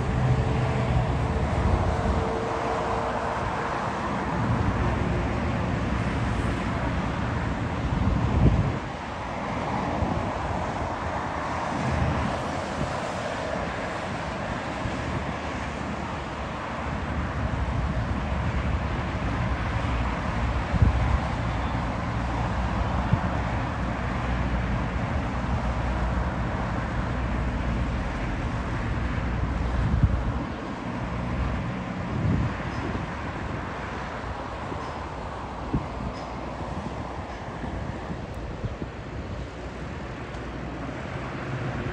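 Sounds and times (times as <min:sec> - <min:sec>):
wind on microphone: 0:00.0 - 0:41.9.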